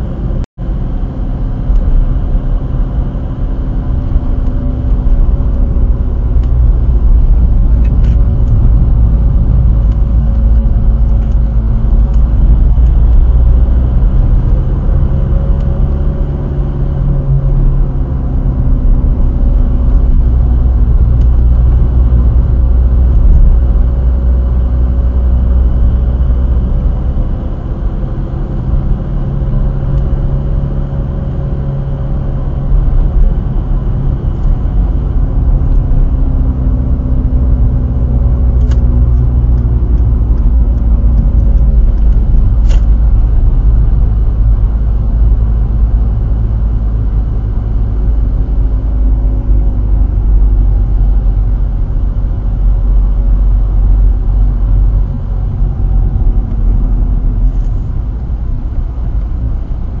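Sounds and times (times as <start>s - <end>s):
diesel car engine: 0.0s - 60.0s
road rumble: 0.0s - 60.0s.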